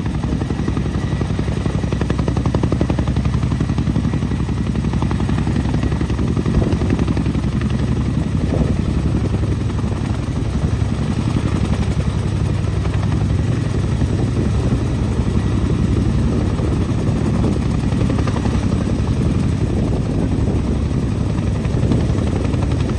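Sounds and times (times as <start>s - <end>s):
helicopter rotors beating: 0.0s - 22.9s.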